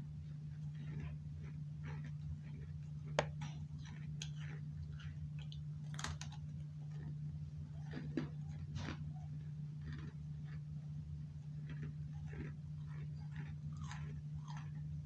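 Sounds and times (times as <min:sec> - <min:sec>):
cookie crunching and chewing: 0:00.0 - 0:15.0
low steady hum: 0:00.0 - 0:15.0.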